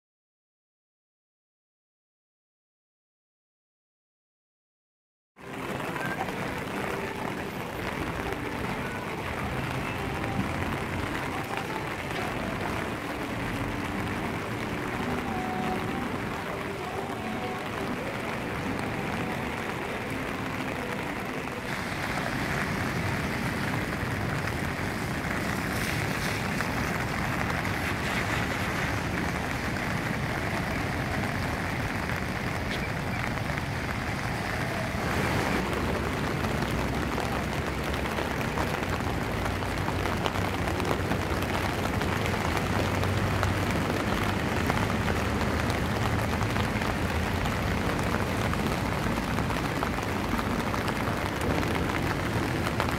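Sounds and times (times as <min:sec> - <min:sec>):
rain falling on wet pavement: 0:05.4 - 0:52.9.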